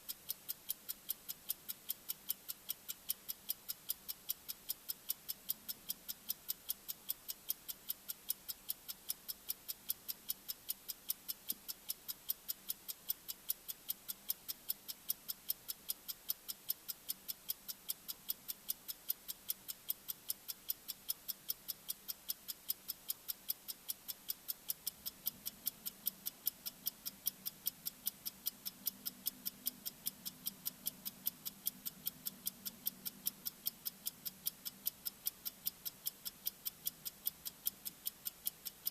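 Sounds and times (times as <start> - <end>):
faint low hum: 0.0 - 38.9
rapid timer ticking: 0.0 - 38.9.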